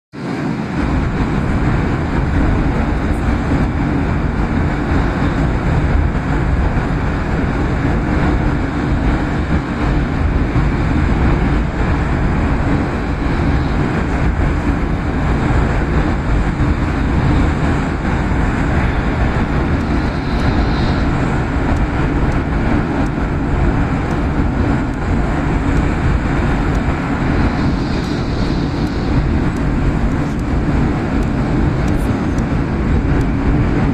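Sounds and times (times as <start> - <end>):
train rumbling at speed: 0.1 - 33.9.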